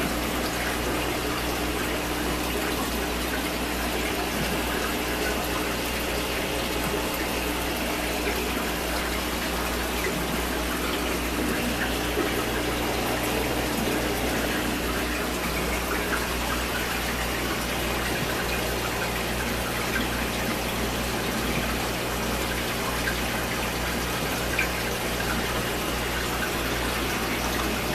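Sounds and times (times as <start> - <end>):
aquarium water bubbling: 0.0 - 27.9
low equipment hum: 0.0 - 27.9.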